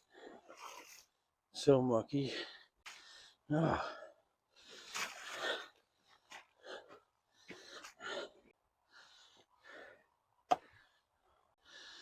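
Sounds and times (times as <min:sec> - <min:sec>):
laboured breathing: 0:02.3 - 0:12.0.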